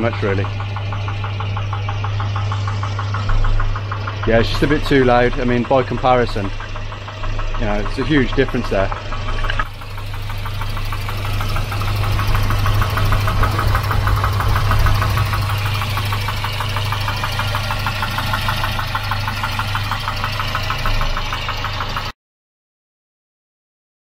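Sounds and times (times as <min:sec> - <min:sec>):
engine knocking rattle: 0:00.0 - 0:22.2.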